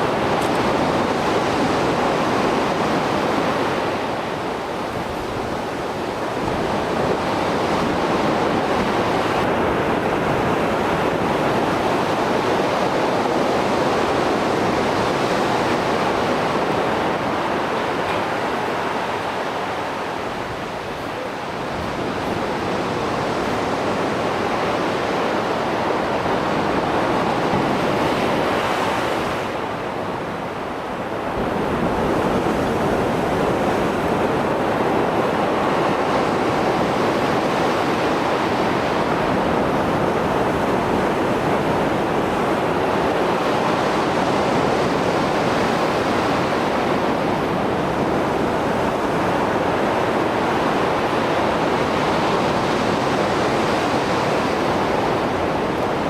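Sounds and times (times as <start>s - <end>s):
breaking waves: 0.0s - 56.0s.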